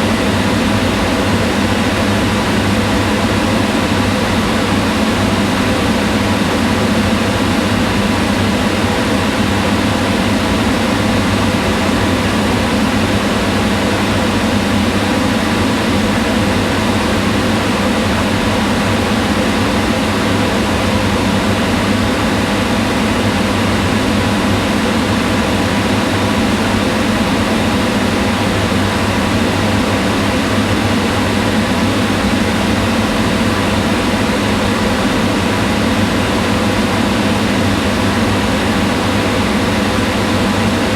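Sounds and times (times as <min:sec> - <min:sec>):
range hood exhaust fan whirring: 0:00.0 - 0:40.9.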